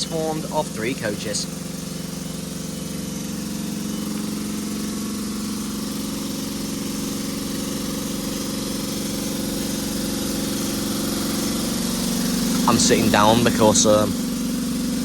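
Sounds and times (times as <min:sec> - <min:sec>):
electric train humming: 0:00.0 - 0:06.1, 0:07.1 - 0:15.0.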